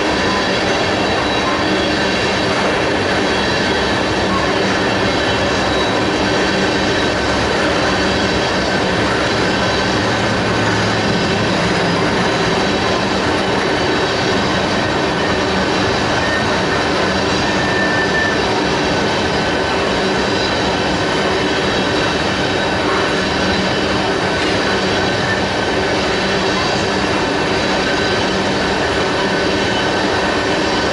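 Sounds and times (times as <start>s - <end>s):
high-pitched wheel squealing: 0.0s - 30.9s
train wheels rumbling on rail: 0.0s - 30.9s.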